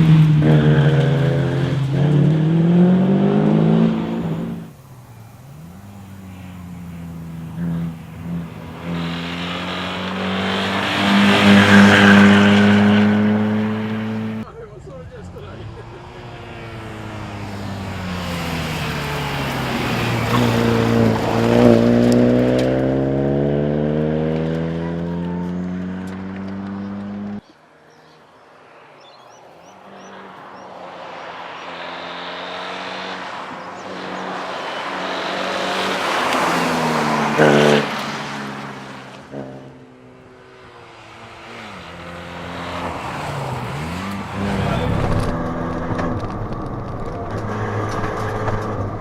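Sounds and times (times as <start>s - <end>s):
car engine revving under load: 0.0s - 14.5s, 15.6s - 27.4s, 29.7s - 49.0s.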